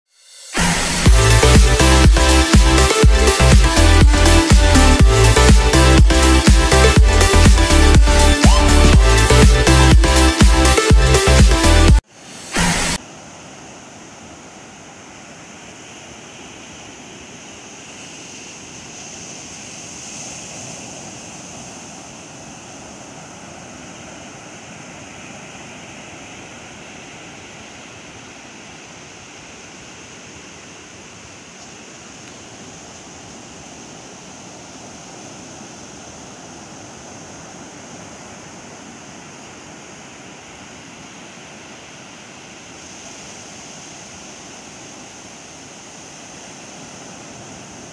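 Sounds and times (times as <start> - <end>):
waves breaking on a beach: 0.5 - 47.9.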